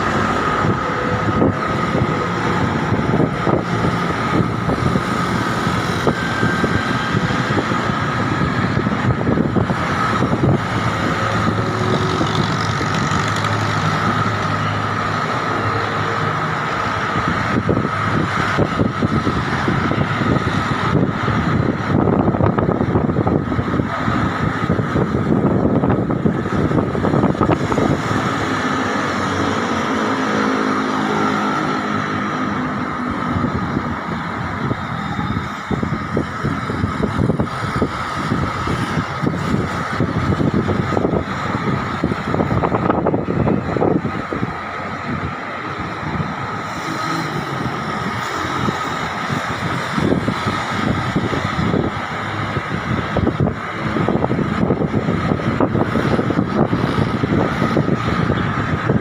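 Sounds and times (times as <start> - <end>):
passing vehicle engine hum: 0.0 - 59.0
road traffic: 0.0 - 59.0
wind buffeting microphone: 0.0 - 59.0.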